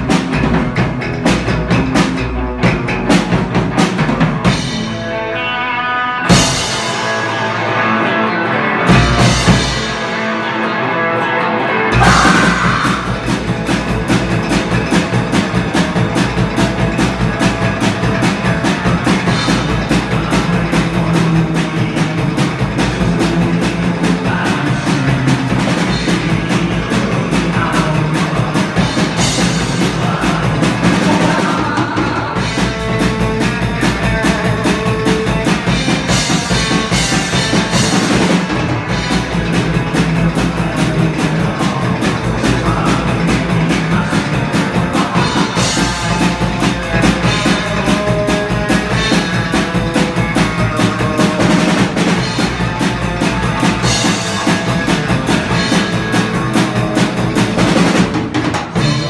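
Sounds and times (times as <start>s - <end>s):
drum kit fast beat: 0.0s - 5.3s, 6.3s - 7.7s, 8.9s - 10.3s, 11.9s - 59.0s
bass guitar: 0.0s - 59.0s
electric guitar: 0.0s - 59.0s.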